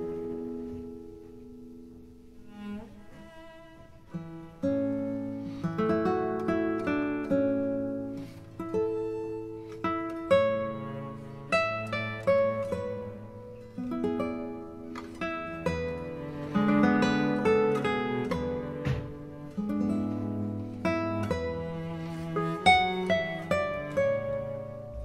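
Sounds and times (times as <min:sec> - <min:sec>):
plucked string instrumental: 0:00.0 - 0:25.0.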